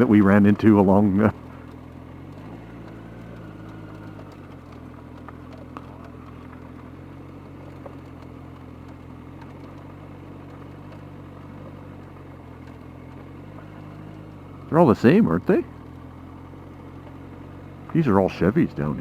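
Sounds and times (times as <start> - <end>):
faint ticks: 0.0 - 18.0
motorcycle engine idling: 0.0 - 19.0.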